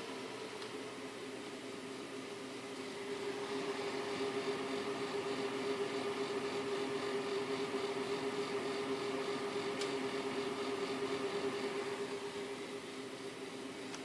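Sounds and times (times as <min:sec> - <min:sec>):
cooling fan humming and whirring: 0:00.0 - 0:14.0.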